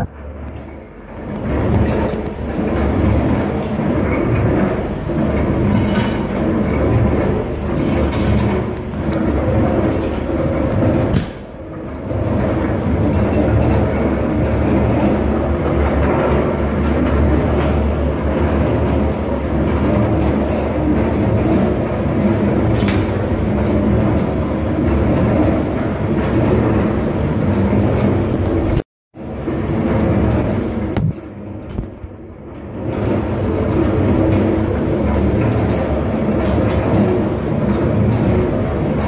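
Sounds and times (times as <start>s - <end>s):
mortar mixer drum rumbling: 0.0s - 39.0s.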